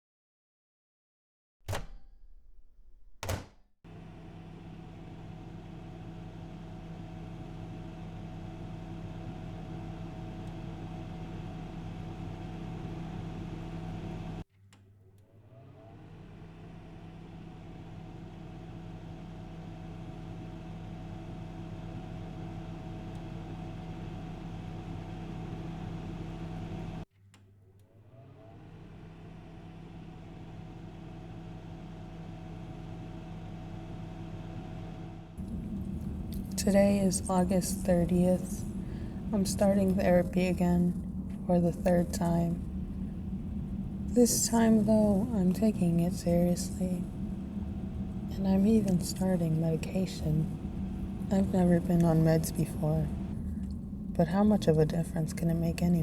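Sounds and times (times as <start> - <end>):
mechanical hum with low drone: 1.7 - 56.0.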